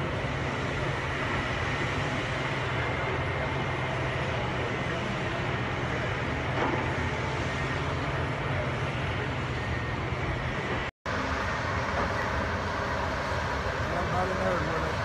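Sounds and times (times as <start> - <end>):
bulldozer diesel engines droning: 0.0 - 15.0.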